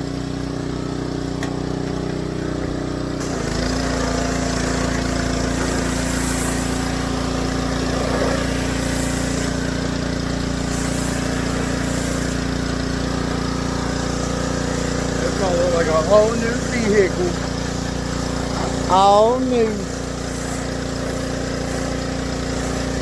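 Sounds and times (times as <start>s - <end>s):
pressure washer engine running: 0.0s - 23.0s.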